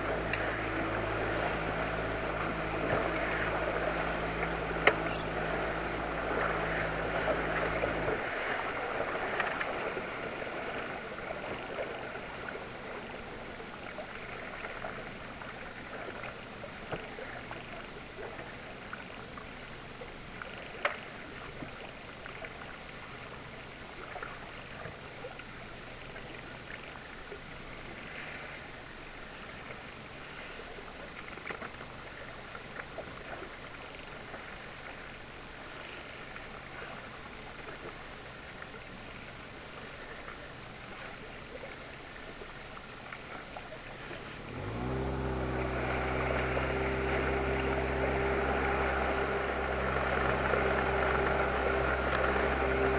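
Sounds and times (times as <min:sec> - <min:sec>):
outboard motor running: 0:00.0 - 0:52.9
water lapping against hull: 0:00.0 - 0:52.9.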